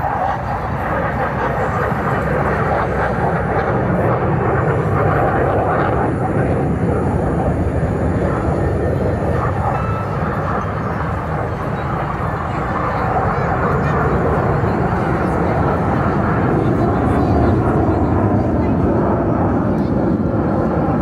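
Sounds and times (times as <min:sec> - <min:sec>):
jet flying low past: 0:00.0 - 0:21.0.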